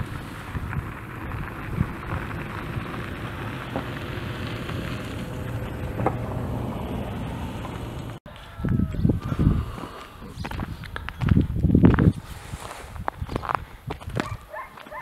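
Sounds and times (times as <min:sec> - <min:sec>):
wind buffeting microphone: 0:00.0 - 0:14.5.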